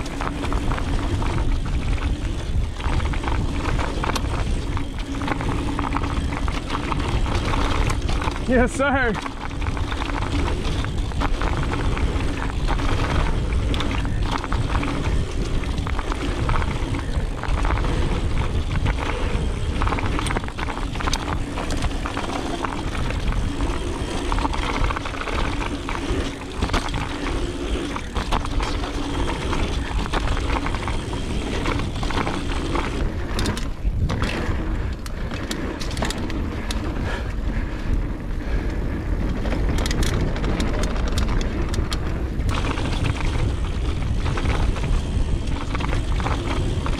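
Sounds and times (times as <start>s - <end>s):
bike clicking and rattling: 0.0s - 46.9s
tyres rolling on dirt: 0.0s - 46.9s
wind rushing over microphone: 0.0s - 46.9s.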